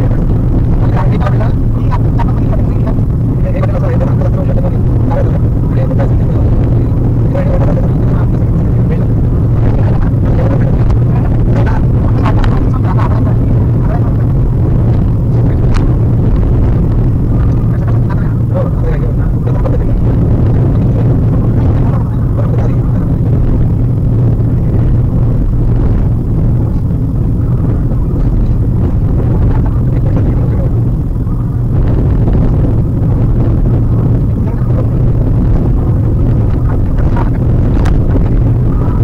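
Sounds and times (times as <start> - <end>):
car engine hum: 0.0 - 39.0.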